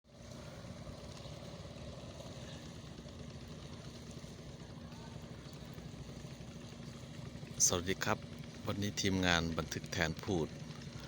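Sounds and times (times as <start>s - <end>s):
engine idling: 0.1s - 11.0s.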